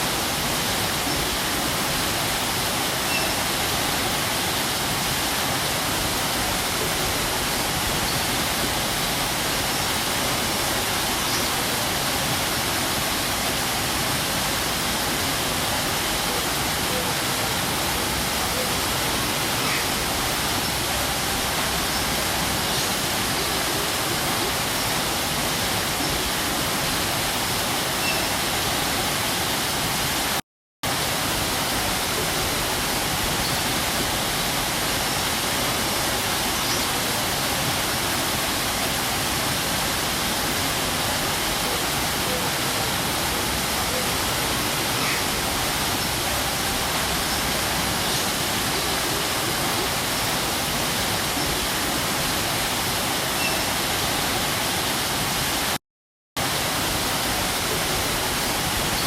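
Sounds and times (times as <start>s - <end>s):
waterfall rushing: 0.0s - 55.8s, 56.4s - 59.0s.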